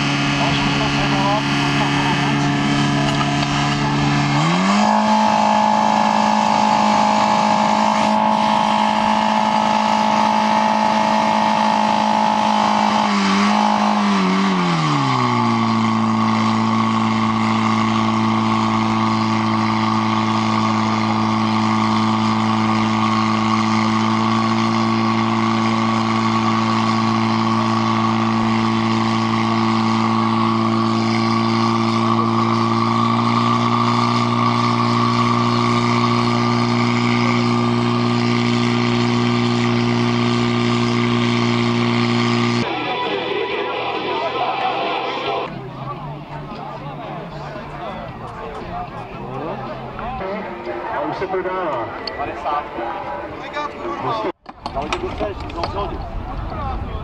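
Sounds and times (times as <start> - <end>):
petrol pump engine running: 0.0 - 56.9.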